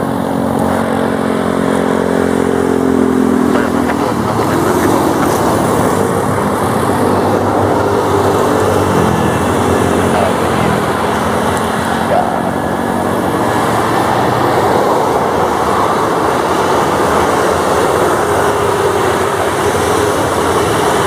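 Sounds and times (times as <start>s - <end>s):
turboprop engines droning: 0.0s - 21.0s.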